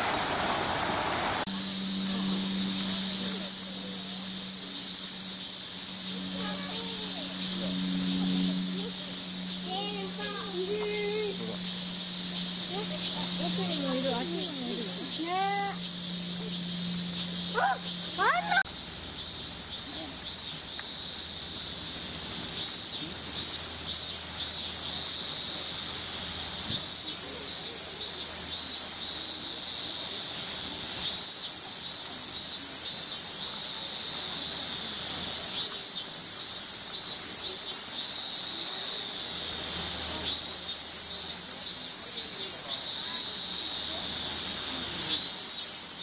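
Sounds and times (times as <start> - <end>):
cicadas buzzing: 0.0 - 46.0
high pulsing insect call: 0.0 - 46.0.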